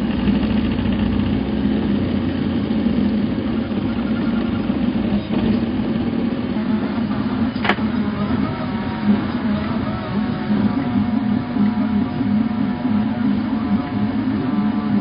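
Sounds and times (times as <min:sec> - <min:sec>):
three d printer motors humming: 0:00.0 - 0:15.0.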